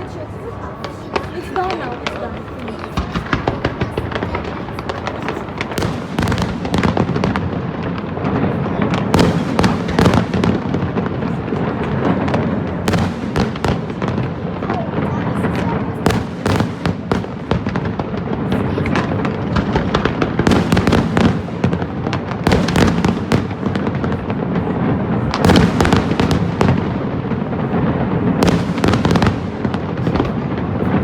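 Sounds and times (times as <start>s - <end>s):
fireworks crackling bangs: 0.0s - 31.0s.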